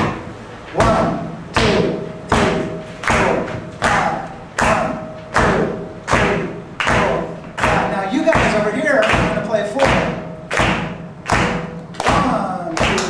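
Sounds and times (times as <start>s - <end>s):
drum hits with deep thud: 0.8s - 13.0s.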